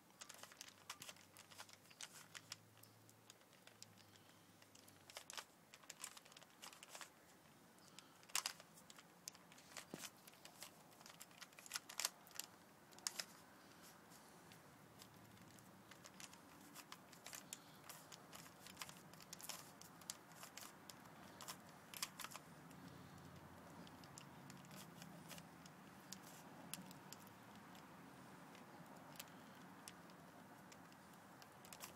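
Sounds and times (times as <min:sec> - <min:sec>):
puzzle cube clicking: 0:00.2 - 0:07.2, 0:07.8 - 0:13.4, 0:15.0 - 0:31.9.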